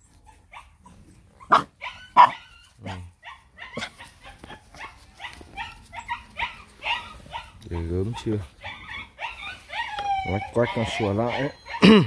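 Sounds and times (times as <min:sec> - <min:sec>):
puppies barking and yipping: 0:00.0 - 0:12.0.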